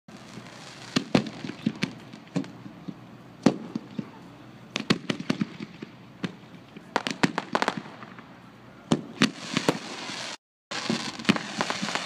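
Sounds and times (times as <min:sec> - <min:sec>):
fireworks bangs and pops: 0:00.1 - 0:12.0.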